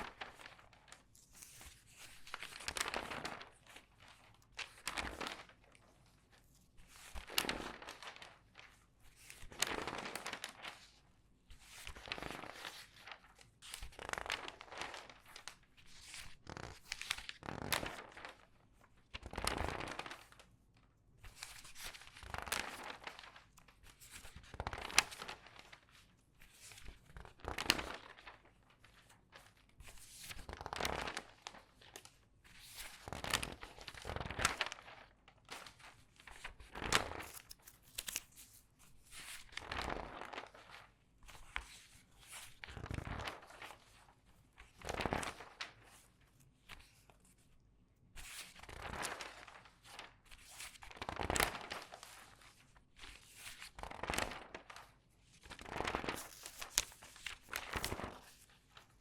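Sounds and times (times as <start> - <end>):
newspaper pages rustling: 0.0 - 11.0, 11.6 - 18.5, 19.2 - 20.5, 21.3 - 47.4, 48.2 - 59.0.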